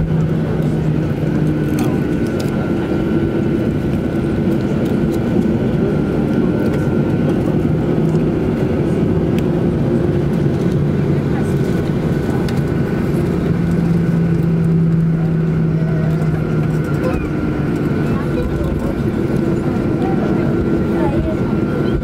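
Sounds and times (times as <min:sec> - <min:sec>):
jet engines heard from cabin: 0:00.0 - 0:22.0.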